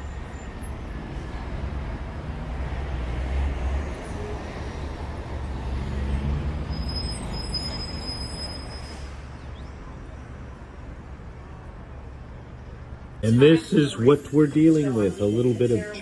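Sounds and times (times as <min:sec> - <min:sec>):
road traffic rumbling: 0:00.0 - 0:16.0.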